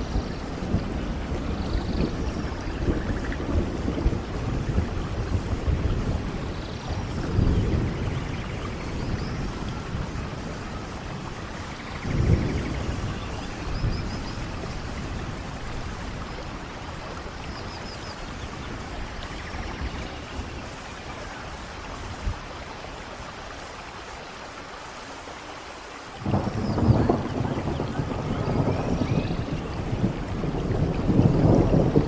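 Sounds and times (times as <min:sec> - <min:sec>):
thunder rumbling: 0:00.0 - 0:23.4, 0:26.2 - 0:32.0
steady rain falling: 0:00.0 - 0:32.0.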